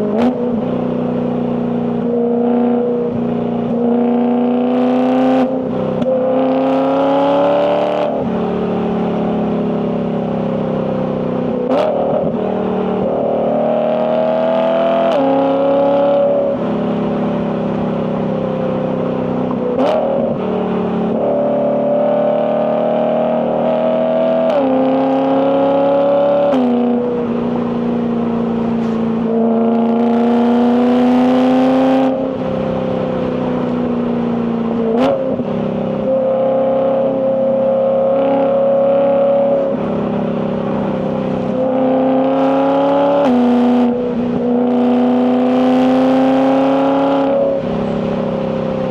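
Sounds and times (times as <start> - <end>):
car engine revving under load: 0.0 - 48.9.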